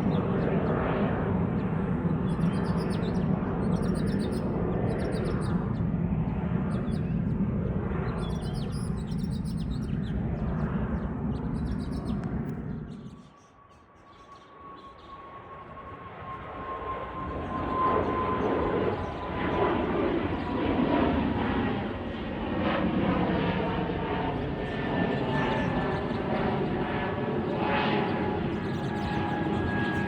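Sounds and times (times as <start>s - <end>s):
airplane engines taking off: 0.0s - 30.0s.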